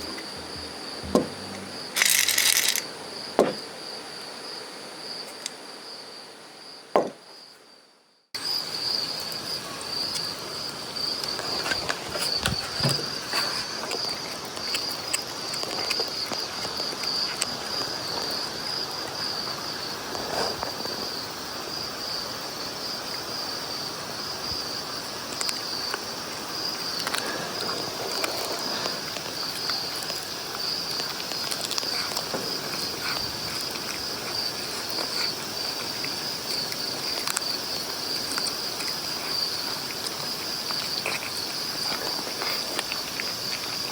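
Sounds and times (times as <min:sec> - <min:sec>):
insect chorus chirring: 0:00.0 - 0:07.6, 0:08.4 - 0:43.9.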